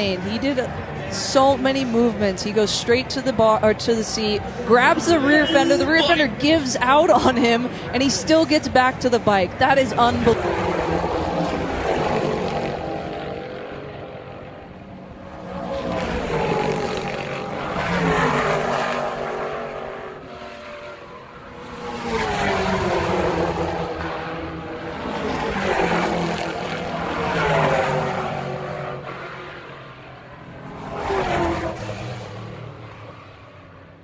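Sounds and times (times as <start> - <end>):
motorcycle engine revving and passing: 0.0 - 14.5, 15.6 - 33.8.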